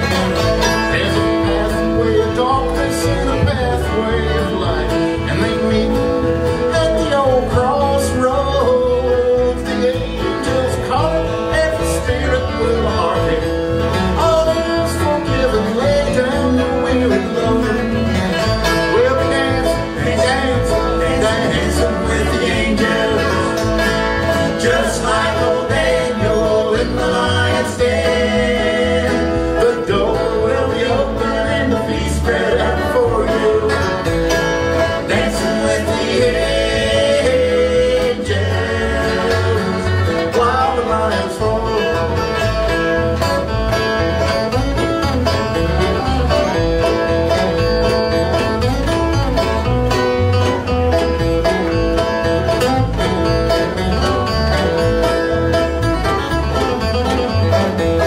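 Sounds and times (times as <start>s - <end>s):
bluegrass band playing: 0.0s - 58.0s.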